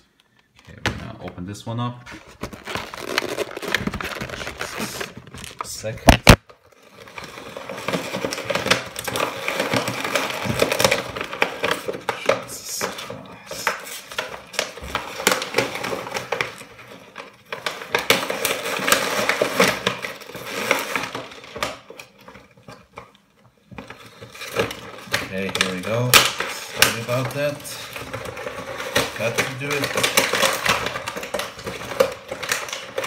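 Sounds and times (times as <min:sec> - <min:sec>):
packaging rustling and crinkling: 0:00.4 - 0:33.0.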